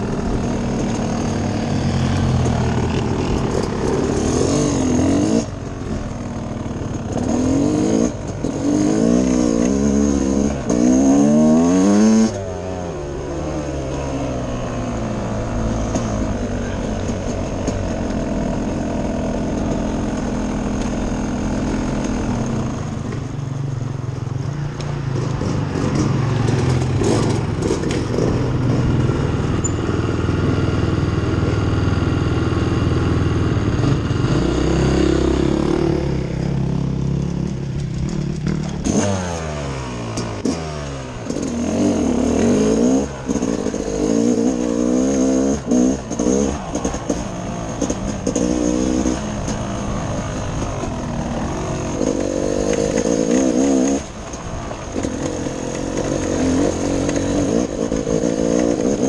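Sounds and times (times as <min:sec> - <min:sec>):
bike rattles: 0:00.0 - 0:11.0, 0:13.8 - 0:31.7, 0:36.4 - 0:59.0
dirt bike engine revving: 0:00.0 - 0:23.1, 0:25.0 - 0:59.0.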